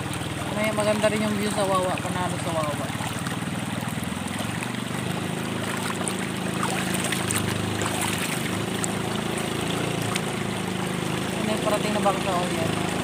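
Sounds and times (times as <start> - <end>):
boat motor running: 0.0 - 13.0
shallow river flowing: 0.0 - 13.0
water splashing from hands: 0.0 - 13.0.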